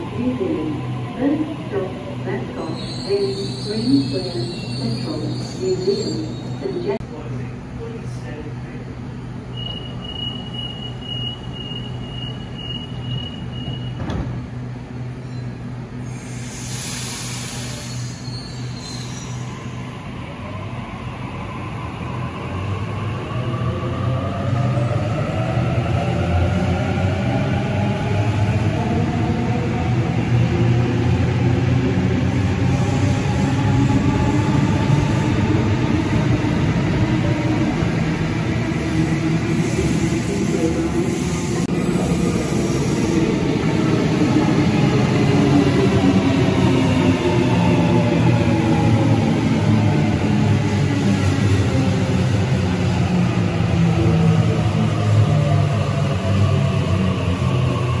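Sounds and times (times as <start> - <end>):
train hum: 0.0 - 58.0.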